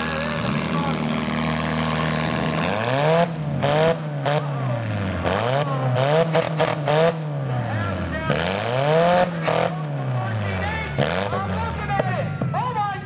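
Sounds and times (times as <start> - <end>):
car engine revving: 0.0 - 12.5.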